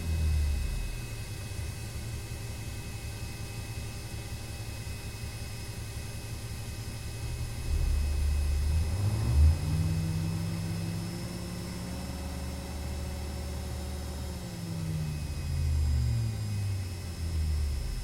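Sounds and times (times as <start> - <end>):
diesel engine idling and revving: 0.0 - 3.2, 5.7 - 18.0.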